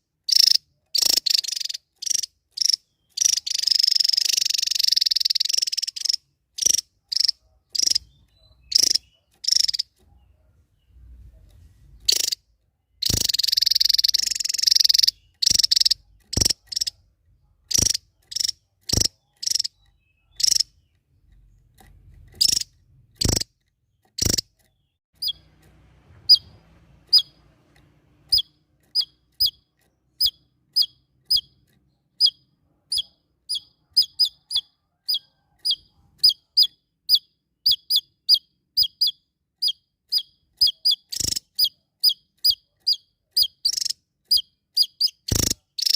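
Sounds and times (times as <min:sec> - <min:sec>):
small songbird calling: 0:00.0 - 0:11.0, 0:12.0 - 0:12.4, 0:13.0 - 0:17.0, 0:17.6 - 0:21.6, 0:22.3 - 0:25.5, 0:26.2 - 0:27.4, 0:28.2 - 0:45.9.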